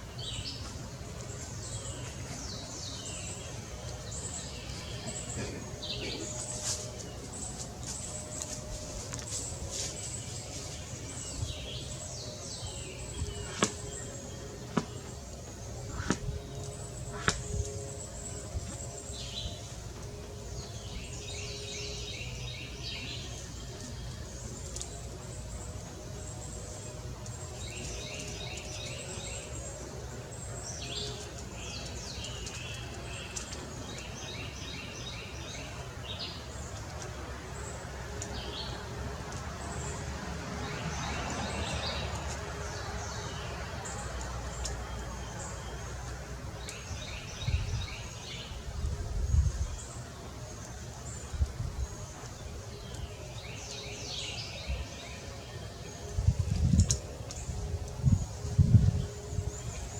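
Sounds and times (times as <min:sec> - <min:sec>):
wild birds singing trills: 0:00.0 - 0:59.9.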